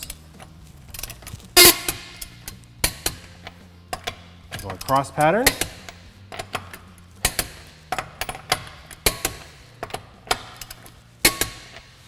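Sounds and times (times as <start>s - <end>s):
torque wrench clicking: 0.9s - 12.0s.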